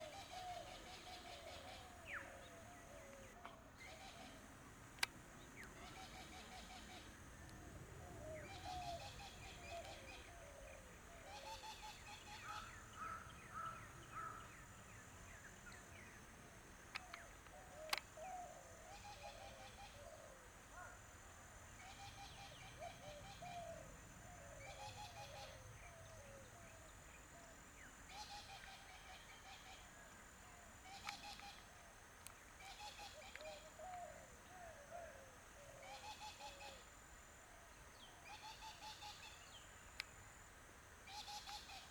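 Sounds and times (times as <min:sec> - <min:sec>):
faint birds calling: 0:00.0 - 0:40.2, 0:41.0 - 0:41.9.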